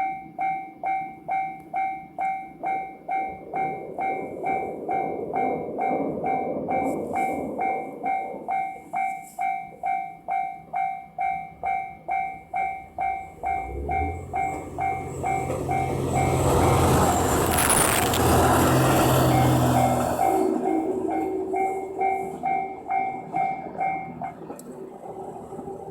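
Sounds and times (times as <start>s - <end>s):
railroad crossing bell dinging: 0.0s - 24.6s
diesel train passing: 0.0s - 25.9s.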